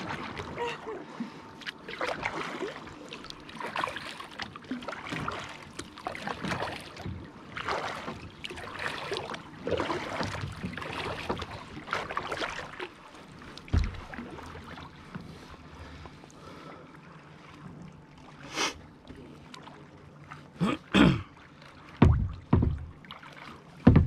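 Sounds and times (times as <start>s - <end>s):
paddle splashing in water: 0.0s - 0.7s, 1.6s - 16.7s, 17.4s - 24.0s.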